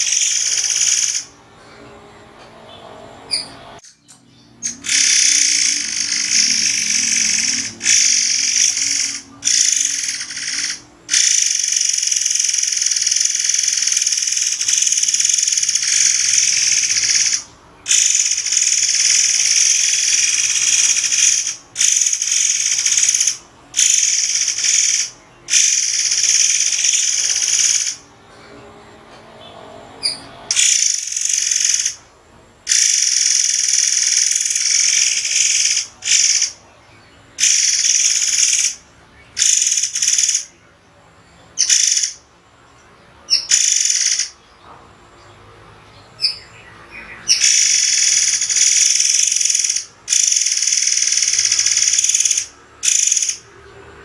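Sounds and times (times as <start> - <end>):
bird singing shrill song: 0.0 - 1.4, 2.6 - 28.1, 29.4 - 32.1, 32.7 - 42.3, 43.0 - 53.8.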